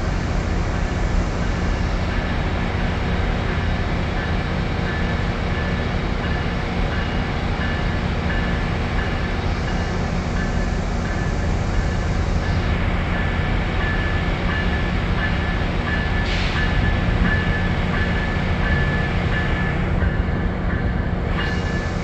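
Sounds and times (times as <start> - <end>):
diesel locomotive running: 0.0 - 22.0.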